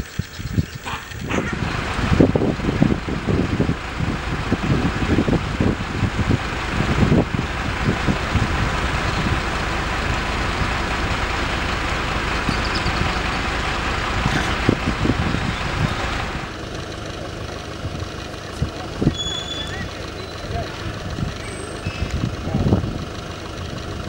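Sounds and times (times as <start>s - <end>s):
wind buffeting microphone: 0.0s - 16.6s, 17.6s - 24.0s.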